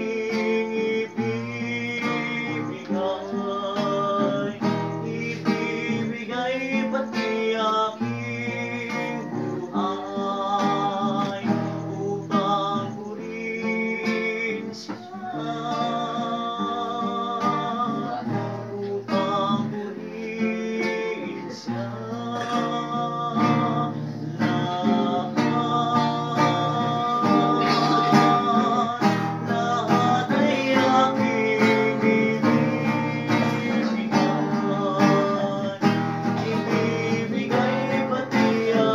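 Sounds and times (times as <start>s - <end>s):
acoustic guitar strumming: 0.0s - 38.9s
voices singing: 0.0s - 38.9s.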